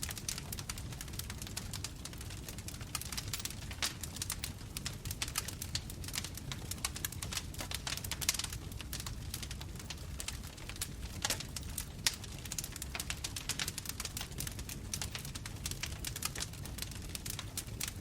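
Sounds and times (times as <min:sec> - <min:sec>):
bonfire crackling: 0:00.0 - 0:18.0
low rumble of flames: 0:00.0 - 0:18.0.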